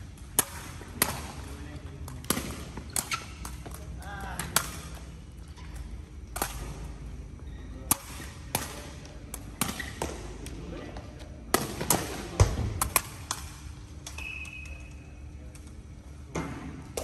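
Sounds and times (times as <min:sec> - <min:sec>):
ball kicks echoing in hall: 0:00.0 - 0:14.9, 0:16.1 - 0:17.0.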